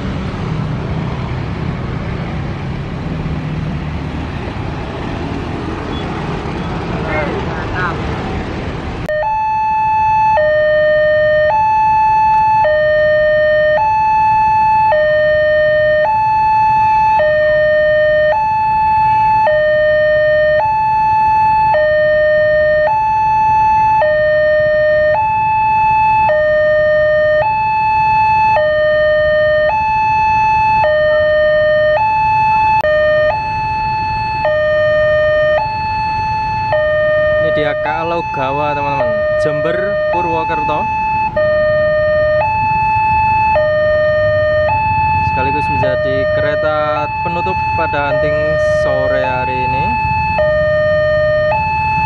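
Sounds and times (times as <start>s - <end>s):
electronic two-tone warning: 9.1s - 52.0s.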